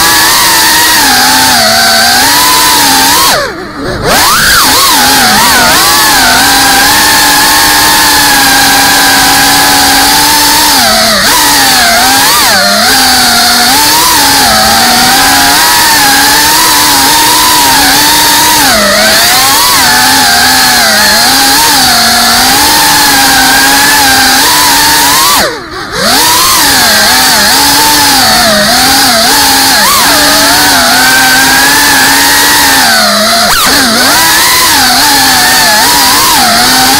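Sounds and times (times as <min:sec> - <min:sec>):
quadcopter motors whining: 0:00.0 - 0:36.9.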